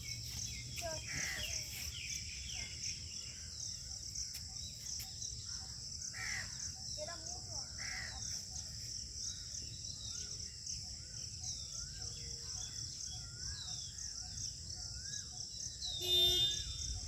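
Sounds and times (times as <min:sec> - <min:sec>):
high-pitched insects droning: 0:00.0 - 0:17.0.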